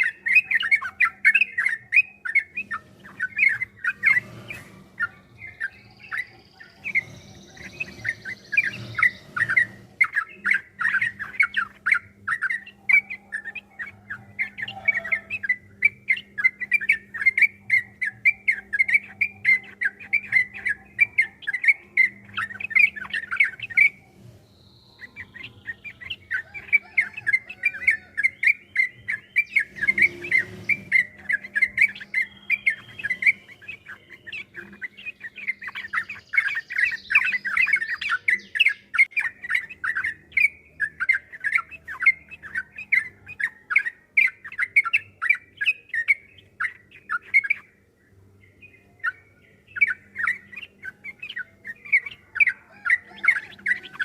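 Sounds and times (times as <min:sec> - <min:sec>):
bird singing chattering notes: 0:00.0 - 0:54.0.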